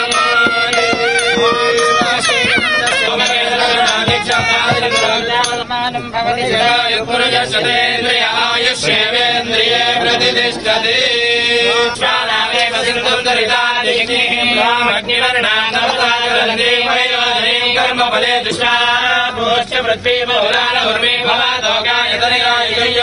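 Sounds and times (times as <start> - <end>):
man singing in chanting style: 0.0 - 23.0.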